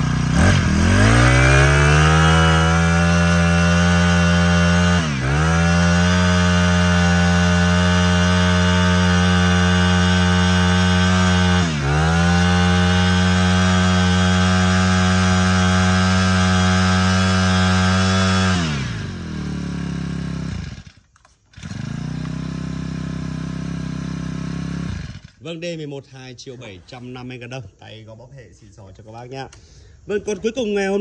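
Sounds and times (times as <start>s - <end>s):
brush cutter engine running: 0.0s - 25.5s.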